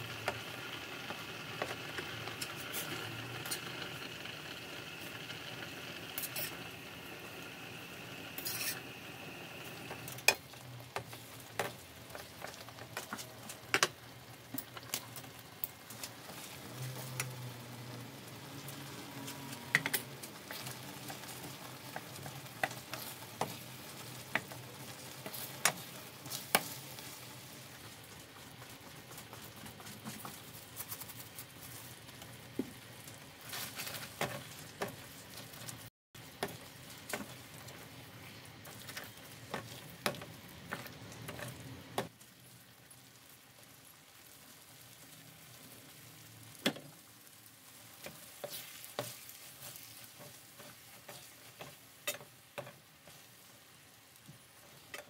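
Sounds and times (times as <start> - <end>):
sauce bubbling in skillet: 0.0 - 30.8, 31.4 - 55.0.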